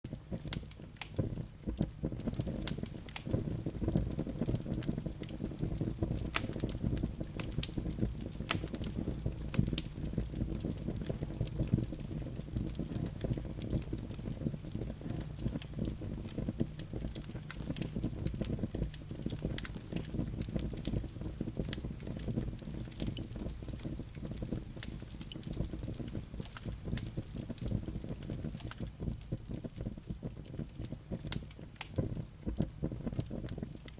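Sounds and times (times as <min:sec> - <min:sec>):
crackles and pops of burning logs: 0:00.1 - 0:33.9
low rumble of flames: 0:00.1 - 0:33.9.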